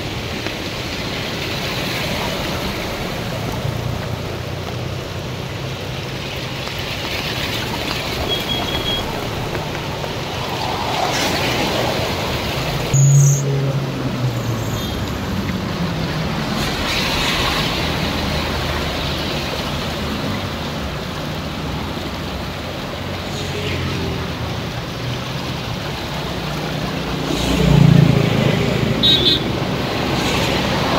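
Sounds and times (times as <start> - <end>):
car engines running: 0.0 - 30.9
floodwater rushing: 0.0 - 30.9
tyres churning water: 0.0 - 30.9.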